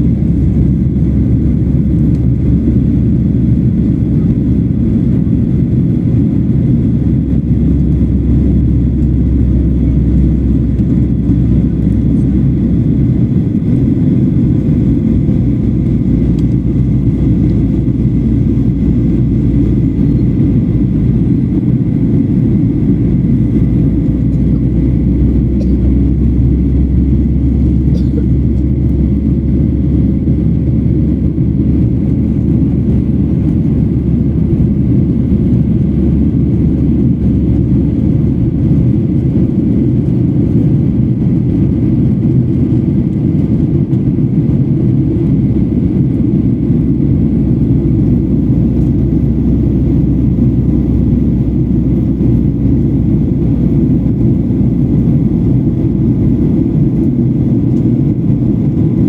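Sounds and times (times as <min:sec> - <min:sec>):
faint steady whine: 0:00.0 - 0:59.0
jet engine rumble in cabin: 0:00.0 - 0:59.0.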